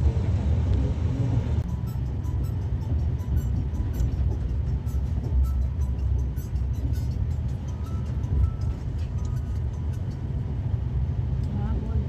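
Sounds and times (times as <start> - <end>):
train coach rumble from inside: 0.0 - 12.0.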